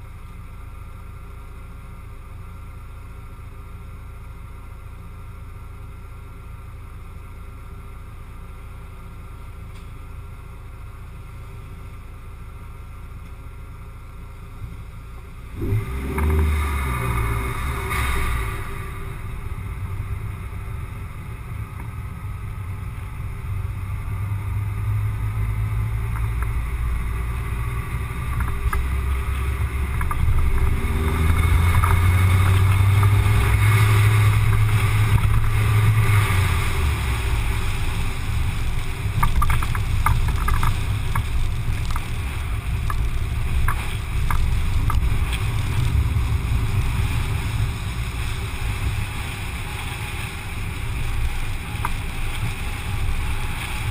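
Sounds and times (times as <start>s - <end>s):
car driving rumble: 0.0s - 53.9s.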